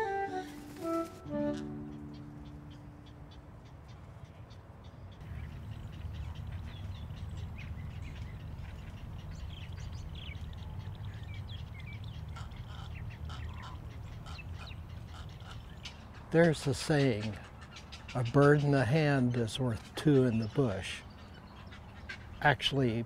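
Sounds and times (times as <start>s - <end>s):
birds squawking and chirping: 0.0s - 23.0s.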